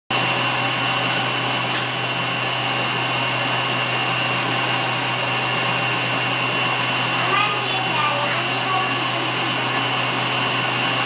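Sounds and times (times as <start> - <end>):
electric hand dryer running: 0.1 - 11.0.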